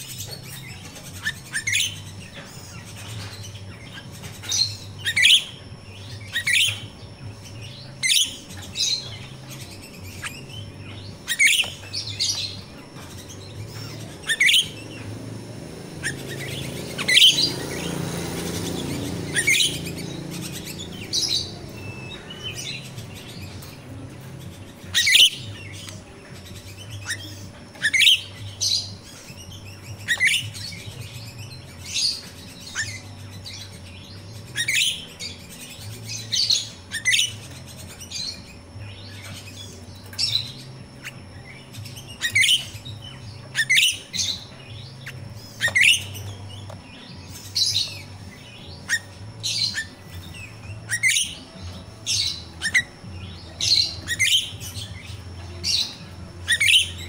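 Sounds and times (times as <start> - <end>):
bird chirping sharply: 0.0 - 57.0.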